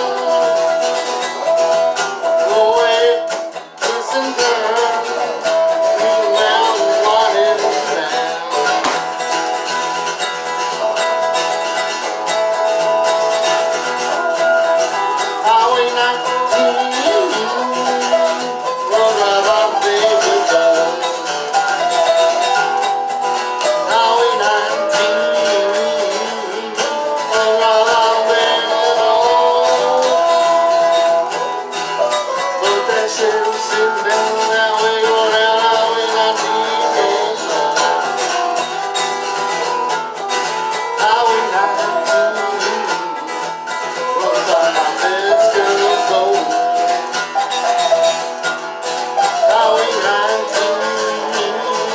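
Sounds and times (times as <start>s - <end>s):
picked string melody: 0.0s - 51.9s
strummed rhythm chords: 0.0s - 51.9s.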